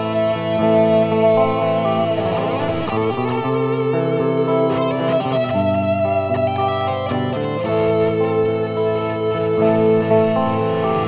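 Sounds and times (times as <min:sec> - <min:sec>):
electric guitar notes: 0:00.0 - 0:11.0.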